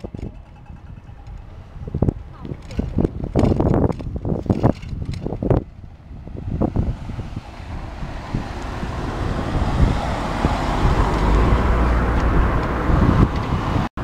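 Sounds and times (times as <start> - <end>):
city road traffic: 0.0 - 14.0
wind rushing over microphone: 0.0 - 14.0.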